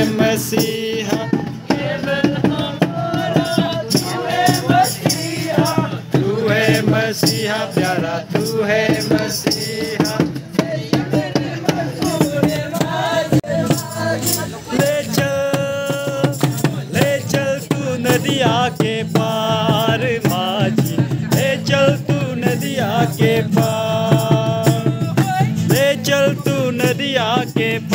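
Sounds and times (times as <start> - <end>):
lively music with singing: 0.0 - 27.9.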